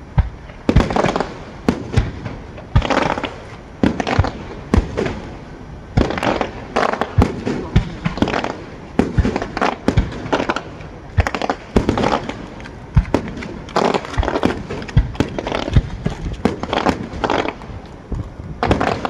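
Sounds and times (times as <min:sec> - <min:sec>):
fireworks bangs and booms: 0:00.0 - 0:19.0
fireworks crackling: 0:00.0 - 0:19.0.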